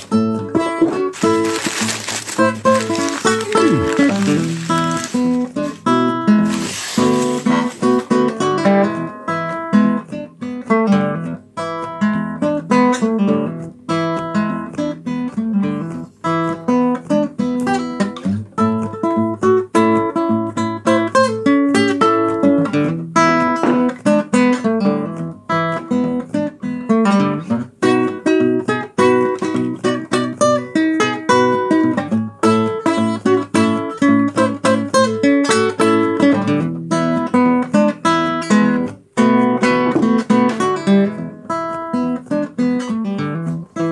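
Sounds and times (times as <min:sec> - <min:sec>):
acoustic guitar playing blues: 0:00.0 - 0:43.9.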